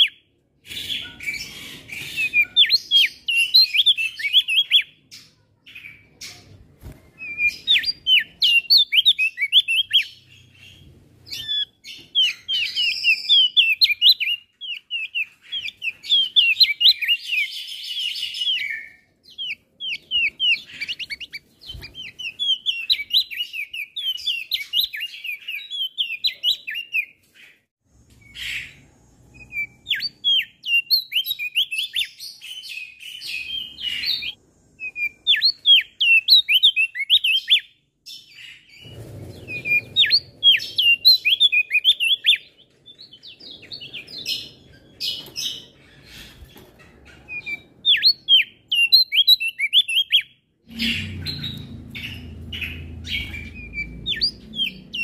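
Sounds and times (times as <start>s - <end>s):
bird singing high chirping notes: 0.0s - 6.1s, 7.2s - 27.1s, 28.2s - 46.2s, 47.2s - 55.0s.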